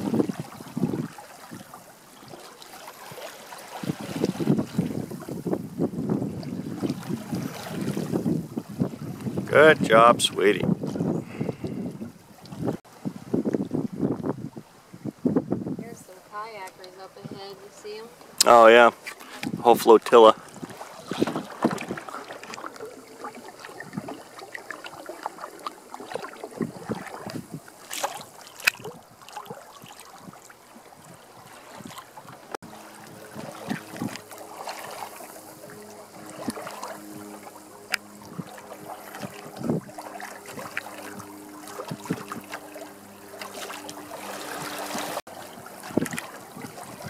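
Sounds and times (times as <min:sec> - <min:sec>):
wind buffeting microphone: 0:00.0 - 0:01.9, 0:03.0 - 0:47.0
water splashing against hull: 0:00.0 - 0:47.0.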